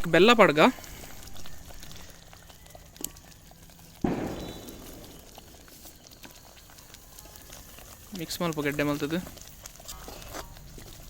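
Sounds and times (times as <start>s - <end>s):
masala sizzling in a hot pan: 0.0s - 11.0s.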